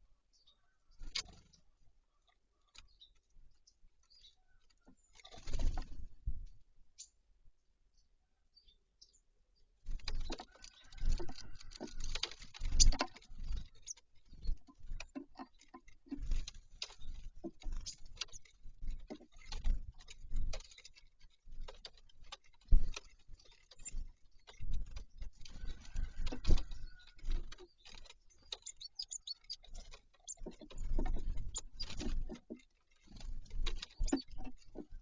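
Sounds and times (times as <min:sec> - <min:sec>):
birds pecking at feeder: 0:00.4 - 0:07.2, 0:09.8 - 0:35.0.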